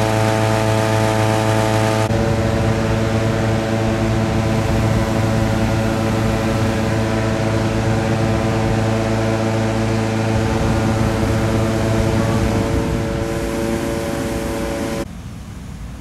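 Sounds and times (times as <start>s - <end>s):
inflator fan engine humming: 0.0s - 15.4s.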